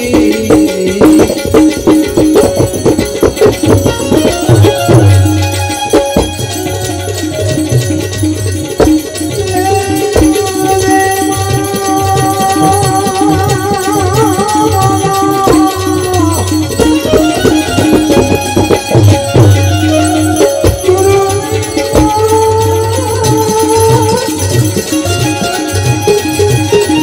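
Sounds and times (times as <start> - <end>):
devotional music with drum: 0.0 - 27.0
jingling percussion: 0.0 - 27.0.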